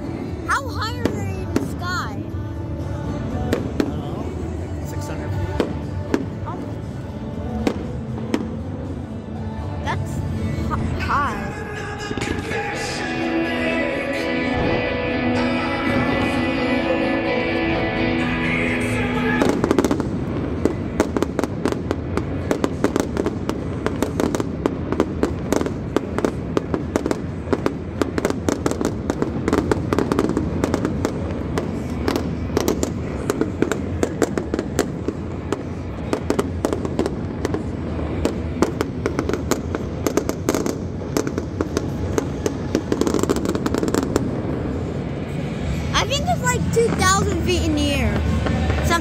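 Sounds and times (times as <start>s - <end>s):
fireworks cracking and banging: 0.0s - 16.8s, 18.7s - 49.0s.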